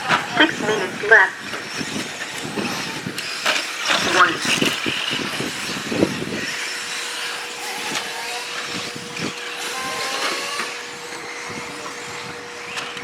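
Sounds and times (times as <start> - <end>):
electric motor whine: 0.0 - 13.0
tyre and track noise: 0.0 - 13.0.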